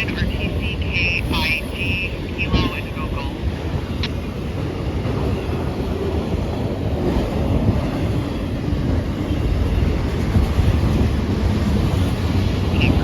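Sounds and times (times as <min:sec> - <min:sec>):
freight train rumbling past: 0:00.0 - 0:13.0
wind buffeting the microphone: 0:00.0 - 0:13.0.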